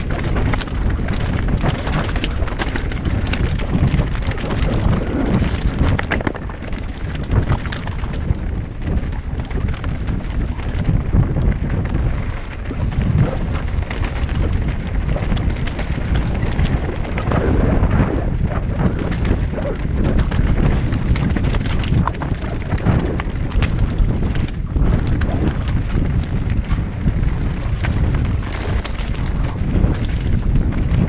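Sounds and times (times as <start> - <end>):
bike rattling: 0.0 - 31.0
bike tyres crunching over stones: 0.0 - 31.0
wind on microphone: 0.0 - 31.0.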